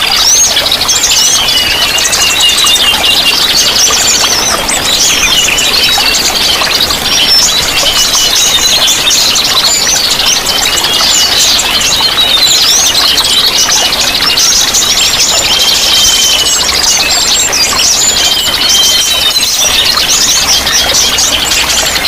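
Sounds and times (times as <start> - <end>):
running water: 0.0 - 22.0
songbirds chirping and trilling: 0.0 - 22.0.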